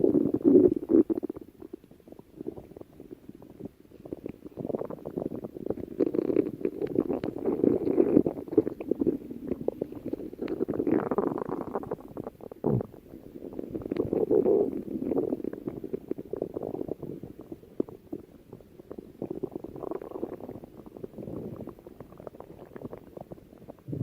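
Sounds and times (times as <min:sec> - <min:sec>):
stomach growling: 0:00.0 - 0:24.0.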